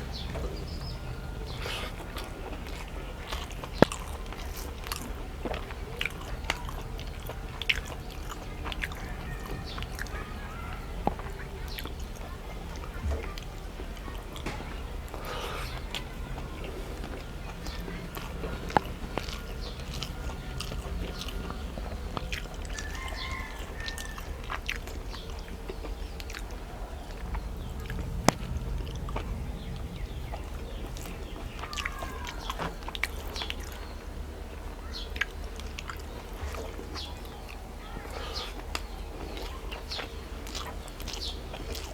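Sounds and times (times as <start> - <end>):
person chewing food: 0.0 - 29.3, 35.1 - 41.9
steady low hum: 0.0 - 41.9.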